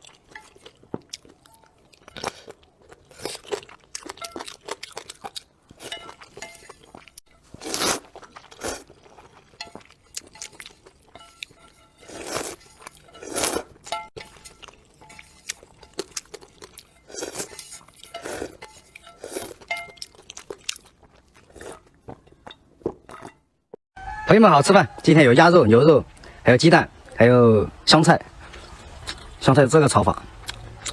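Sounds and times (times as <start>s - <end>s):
crunchy chewing: 0.0s - 23.4s, 28.2s - 30.9s.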